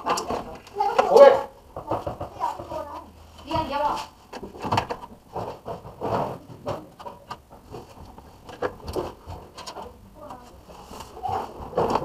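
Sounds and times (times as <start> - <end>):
cables knocking and rubbing: 1.7 - 12.0.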